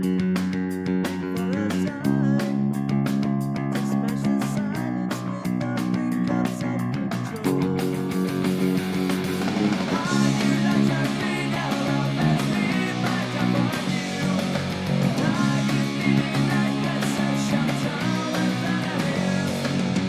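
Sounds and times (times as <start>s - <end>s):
backing music: 0.0s - 20.0s
electric bass played fingerstyle: 0.0s - 20.0s.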